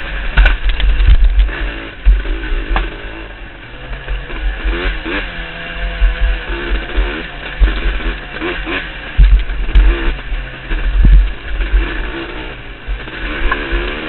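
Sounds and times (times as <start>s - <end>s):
dirt bike engine revving: 0.0s - 14.0s
low thumps of wind on camera: 0.0s - 14.0s.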